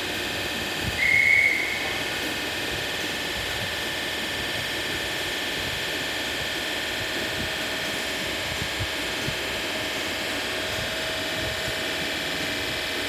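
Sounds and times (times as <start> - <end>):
electric train hum and hiss: 0.0 - 13.0.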